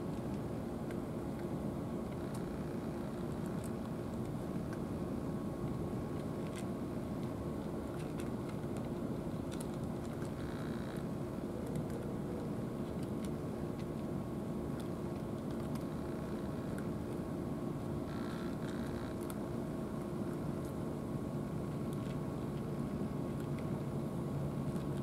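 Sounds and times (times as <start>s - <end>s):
low mechanical hum with tones: 0.0s - 25.0s.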